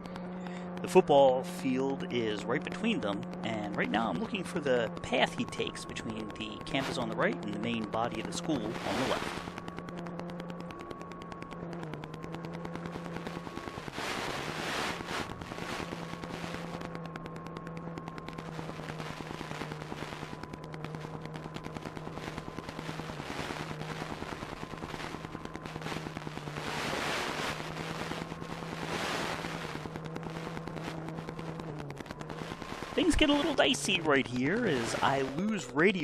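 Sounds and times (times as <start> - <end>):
electric motor and propeller buzzing: 0.0 - 36.0.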